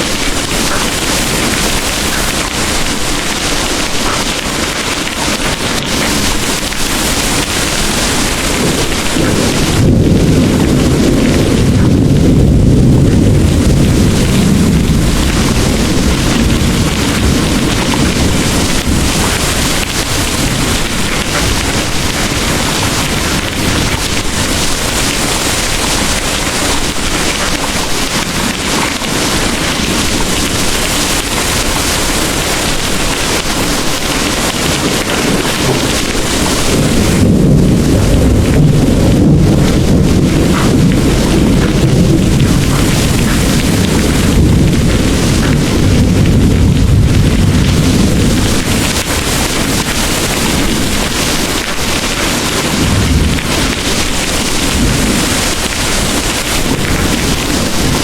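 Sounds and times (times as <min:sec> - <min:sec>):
distant thunder rumble: 0:00.0 - 0:58.0
heavy rain pouring: 0:00.0 - 0:58.0.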